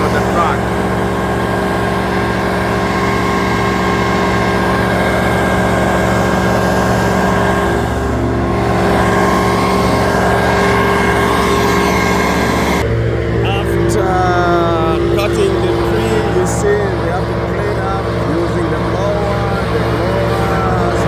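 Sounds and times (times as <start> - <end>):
large machinery engine running: 0.0 - 21.0.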